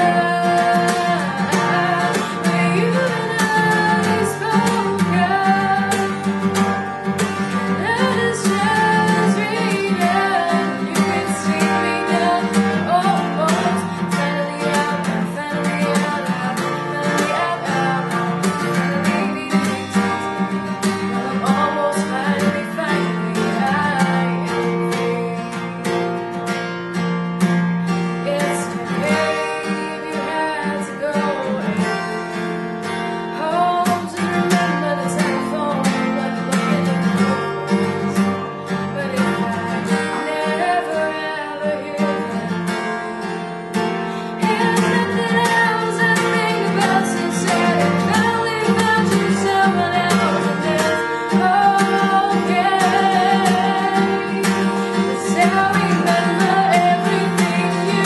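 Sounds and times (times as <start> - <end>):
woman singing: 0.0 - 26.4, 28.1 - 58.0
acoustic guitar: 0.0 - 58.0.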